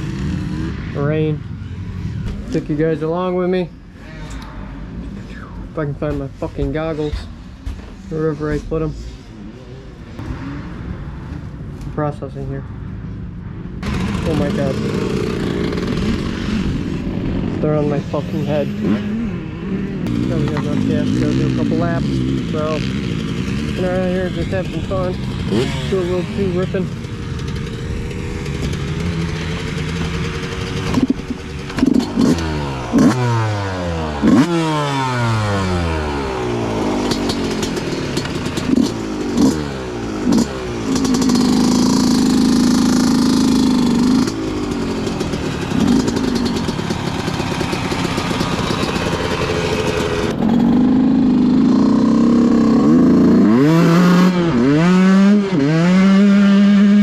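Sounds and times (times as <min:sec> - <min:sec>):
dirt bike engine revving: 0:00.0 - 0:11.3, 0:13.8 - 0:57.0.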